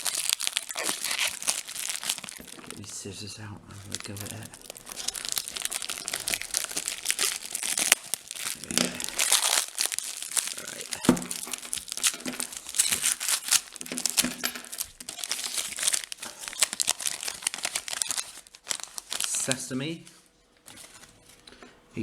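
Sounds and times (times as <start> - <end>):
plastic packaging crinkling and tearing: 0.0 - 21.5.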